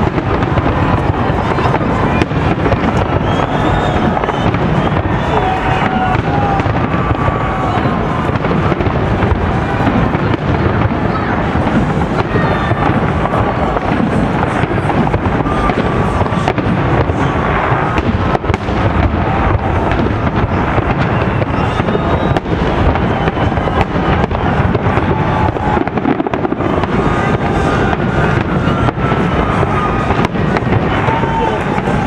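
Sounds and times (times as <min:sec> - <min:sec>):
fireworks bursts and crackling: 0:00.0 - 0:32.0.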